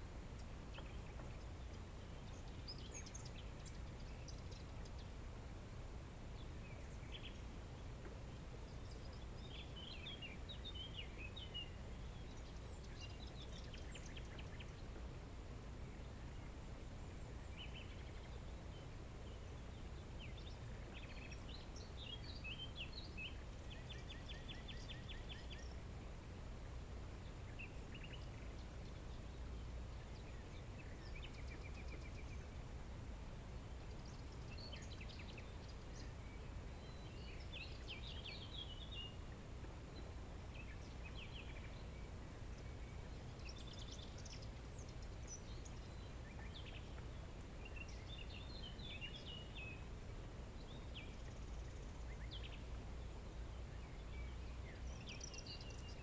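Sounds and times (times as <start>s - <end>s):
low outdoor rumble: 0.0s - 56.0s
songbirds chirping and trilling: 0.0s - 56.0s.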